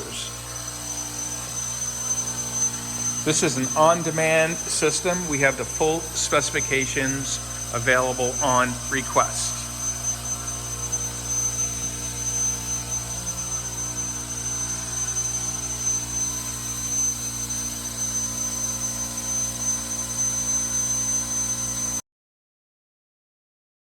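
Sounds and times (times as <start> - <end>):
high-pitched machine whine: 0.0 - 22.0
industrial machinery drone: 0.0 - 22.0.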